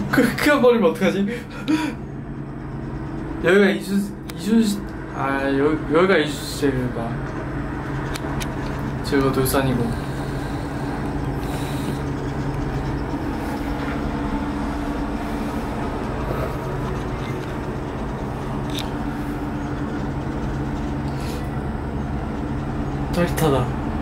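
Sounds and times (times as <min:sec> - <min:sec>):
cable car cabin hum: 0:00.0 - 0:24.0.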